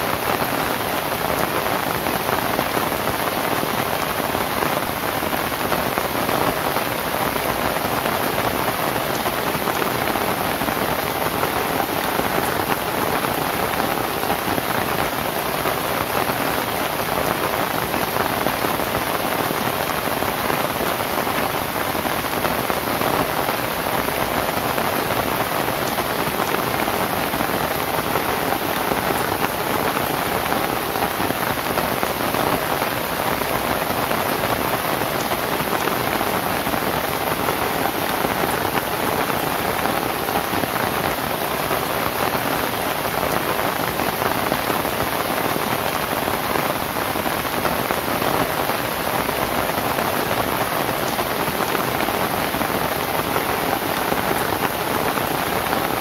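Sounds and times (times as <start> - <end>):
rain on a thatch roof: 0.0 - 56.0.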